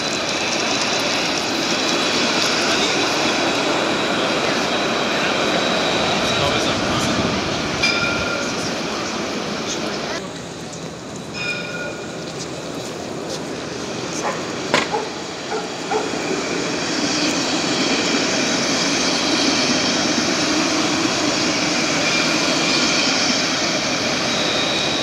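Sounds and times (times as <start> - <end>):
tram wheels rushing: 0.0 - 25.0.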